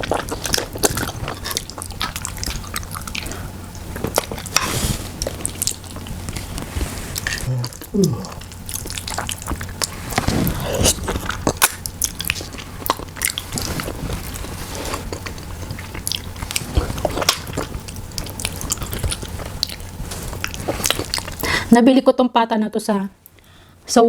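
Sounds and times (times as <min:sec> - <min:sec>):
person chewing with wet clicks: 0:00.0 - 0:21.7.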